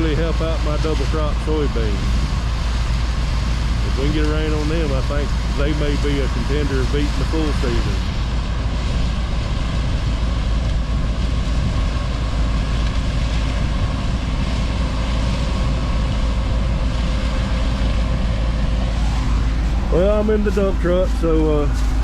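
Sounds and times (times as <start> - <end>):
heavy vehicle engine droning: 0.0 - 22.0.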